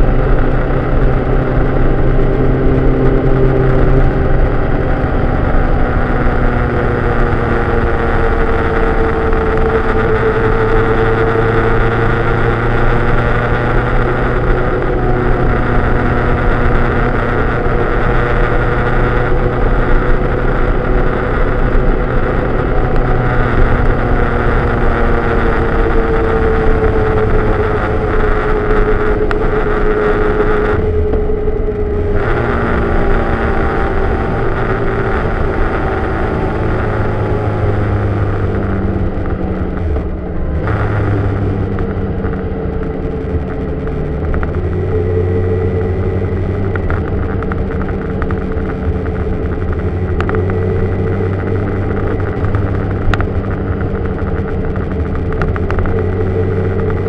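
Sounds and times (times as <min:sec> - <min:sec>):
vehicle engine running: 0:00.0 - 0:57.0
wind and road noise: 0:00.0 - 0:57.0.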